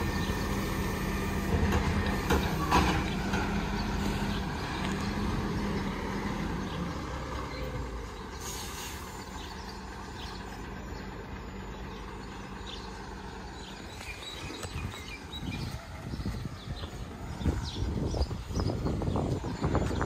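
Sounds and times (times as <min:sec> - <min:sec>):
distant diesel truck engine running: 0:00.0 - 0:20.0.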